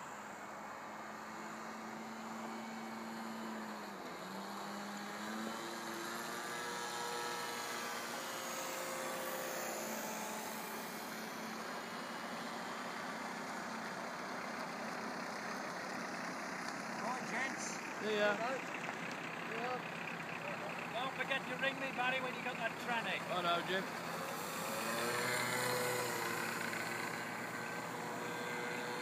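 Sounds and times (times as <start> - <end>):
model plane engine droning: 0.0 - 29.0.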